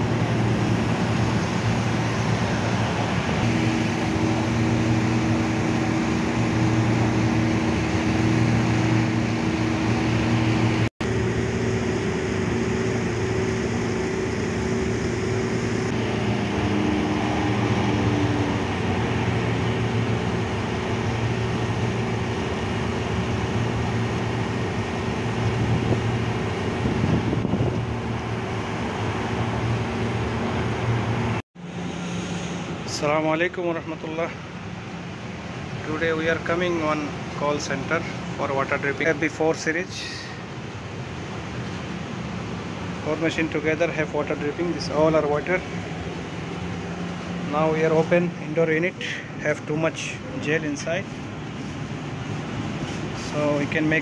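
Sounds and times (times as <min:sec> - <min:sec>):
highway traffic noise: 0:00.0 - 0:54.0
low even hum: 0:00.0 - 0:54.0.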